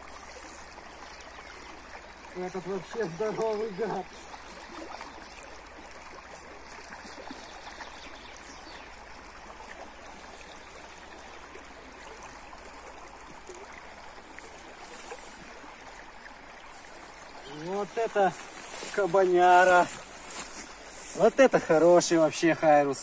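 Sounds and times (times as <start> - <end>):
river flowing over riffle: 0.0 - 23.0.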